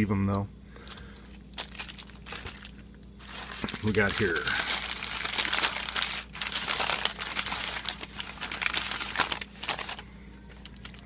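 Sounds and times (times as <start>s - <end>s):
packaging crinkling and rustling: 0.8s - 11.0s.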